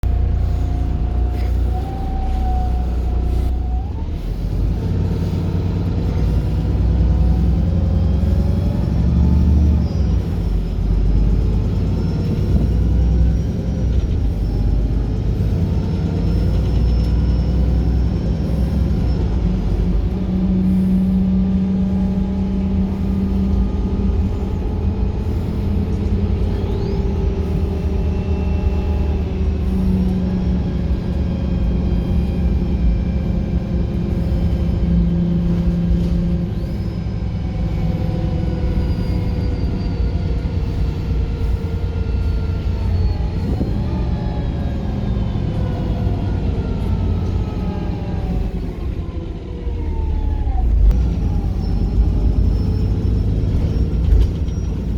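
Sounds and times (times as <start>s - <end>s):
bus engine rumble: 0.0s - 54.9s
drivetrain whine: 0.0s - 54.9s.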